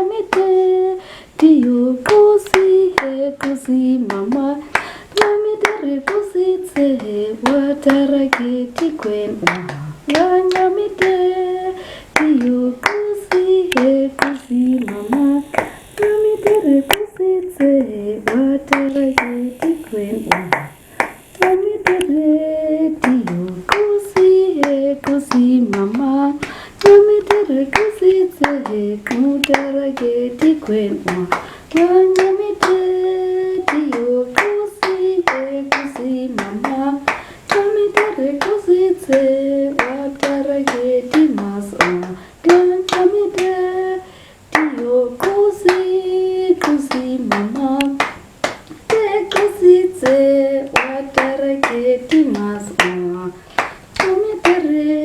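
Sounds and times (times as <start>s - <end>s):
person singing: 0.0s - 55.0s
rhythmic hand clapping: 0.0s - 55.0s.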